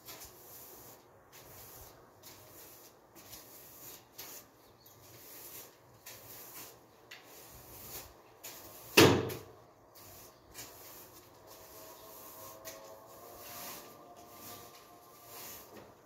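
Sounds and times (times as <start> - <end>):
broom sweeping floor tiles: 0.0 - 16.0.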